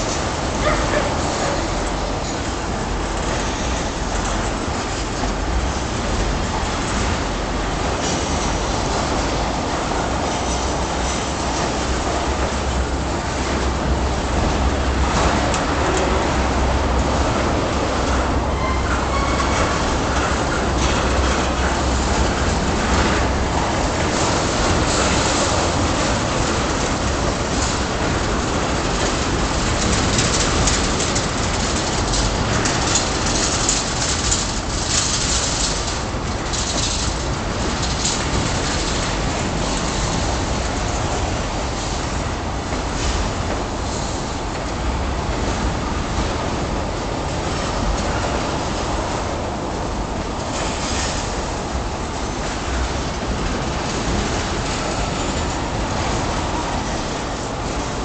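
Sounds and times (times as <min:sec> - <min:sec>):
train wheels rumbling on rail: 0:00.0 - 0:58.0
wheels clicking on track: 0:00.0 - 0:58.0.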